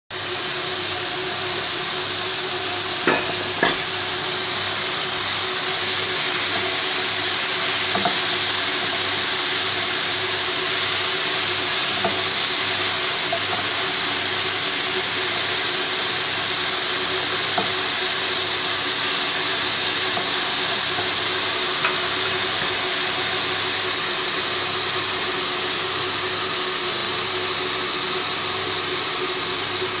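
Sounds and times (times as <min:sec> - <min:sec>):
food sizzling in a pan: 0:00.1 - 0:30.0.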